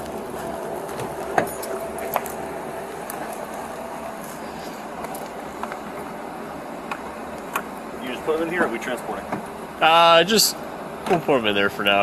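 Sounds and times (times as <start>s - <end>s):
vehicles idling: 0.0s - 12.0s.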